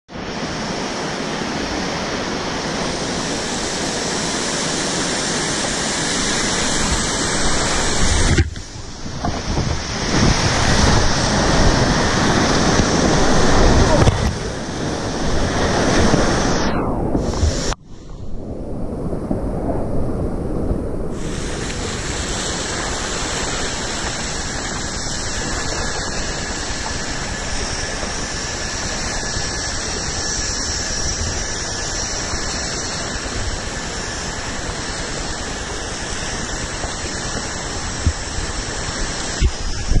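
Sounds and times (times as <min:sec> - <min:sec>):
whitewater rushing: 0:00.1 - 0:17.8, 0:21.0 - 0:40.0
bright hiss: 0:02.6 - 0:18.2, 0:21.1 - 0:40.0.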